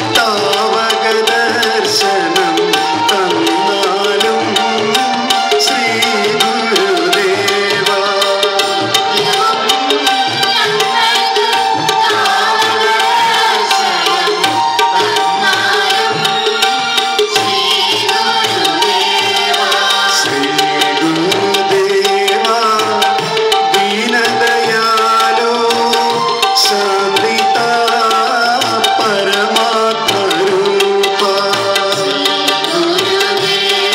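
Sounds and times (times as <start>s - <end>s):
tabla rhythm: 0.0s - 33.9s
voices singing devotional song: 0.0s - 33.9s.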